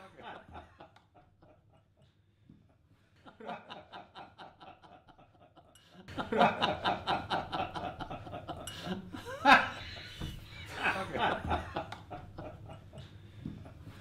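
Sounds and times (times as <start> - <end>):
men laughing: 0.0 - 1.8, 3.2 - 14.0.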